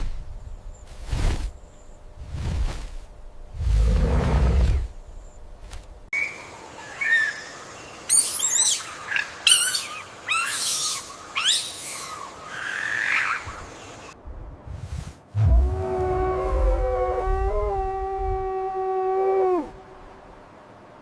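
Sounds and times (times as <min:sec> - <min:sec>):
light background hiss: 0:00.0 - 0:21.0.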